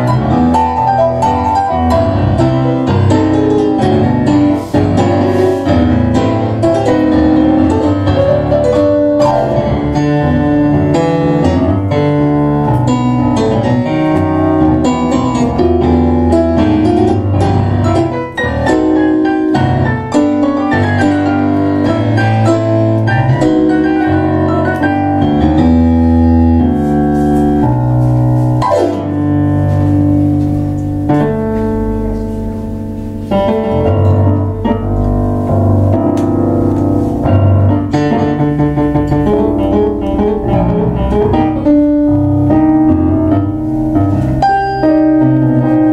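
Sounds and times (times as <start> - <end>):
piano duet playing tango: 0.0 - 45.9.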